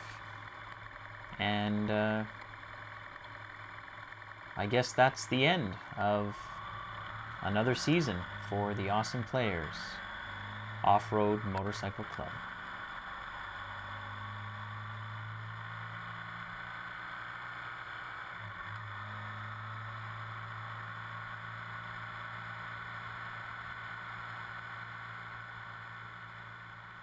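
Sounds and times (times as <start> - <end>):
motorcycle engine riding steadily: 0.0 - 27.0
tyres on gravel road: 0.0 - 27.0.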